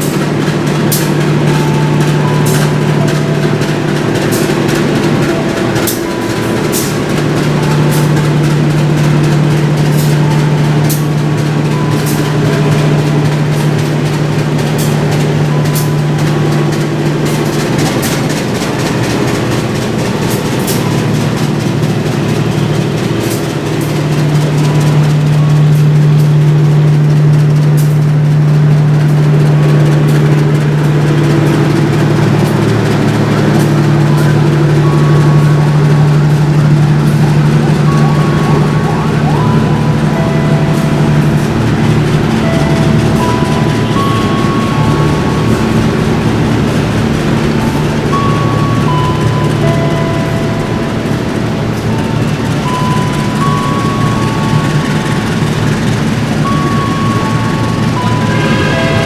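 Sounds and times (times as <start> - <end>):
train low hum: 0.0 - 59.0.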